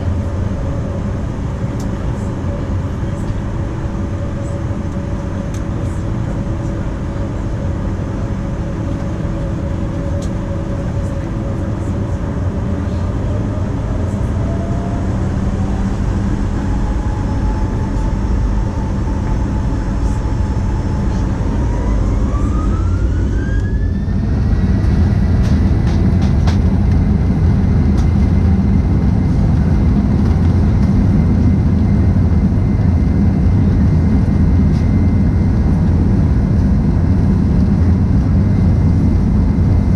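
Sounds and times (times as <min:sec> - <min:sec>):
constant low rumble: 0:00.0 - 0:39.9
jet engine whine rising: 0:00.0 - 0:39.9.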